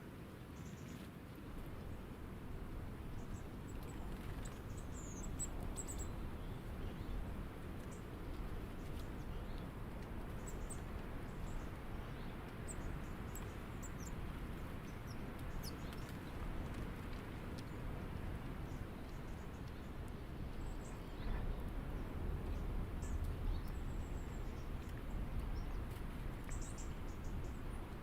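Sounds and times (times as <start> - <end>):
low outdoor rumble: 1.4 - 28.0
small birds chirping: 3.1 - 17.9, 18.6 - 28.0.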